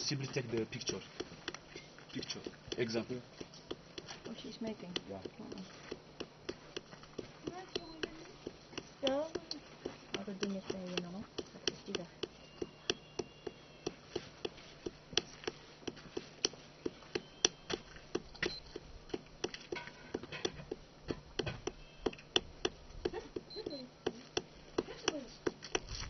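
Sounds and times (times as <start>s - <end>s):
hand patting wet clay: 0.3s - 26.0s.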